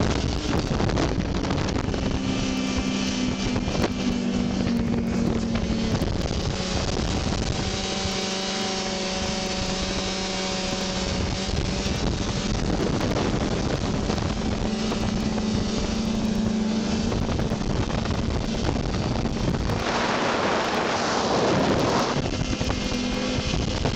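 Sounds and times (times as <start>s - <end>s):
snowmobile engine running: 0.0s - 23.9s
wind buffeting the microphone: 0.0s - 23.9s.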